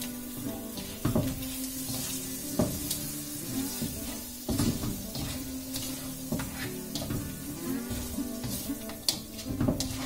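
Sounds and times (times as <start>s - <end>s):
light sizzle: 0.0s - 10.0s
spatula scraping frying pan: 0.0s - 10.0s.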